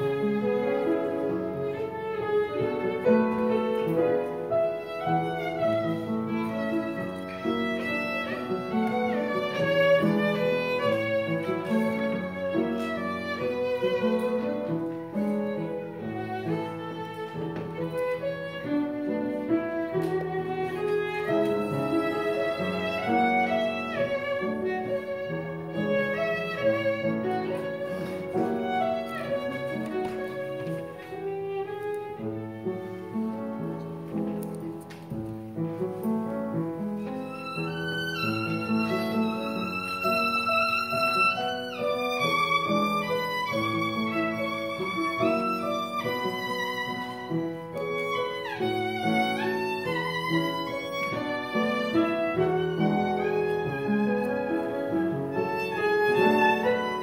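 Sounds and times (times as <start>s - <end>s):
violin playing a waltz melody: 0.0s - 57.0s.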